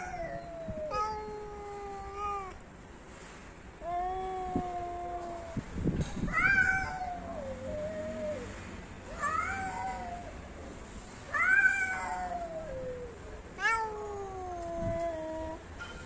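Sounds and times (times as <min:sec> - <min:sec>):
cats yowling: 0:00.0 - 0:02.6, 0:03.8 - 0:10.4, 0:11.3 - 0:15.7.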